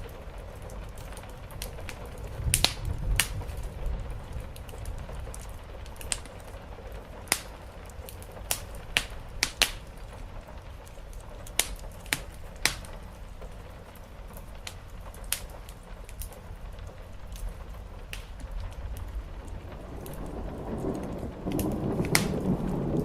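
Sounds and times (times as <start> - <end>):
rain on a roof: 0.0 - 23.0
wood fire crackling: 0.0 - 23.0.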